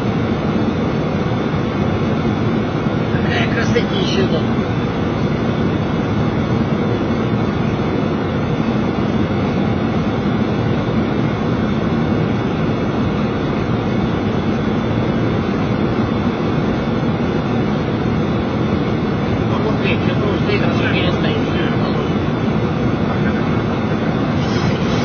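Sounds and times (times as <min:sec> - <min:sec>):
air flowing past aircraft: 0:00.0 - 0:25.0
aircraft engine noise: 0:00.0 - 0:25.0.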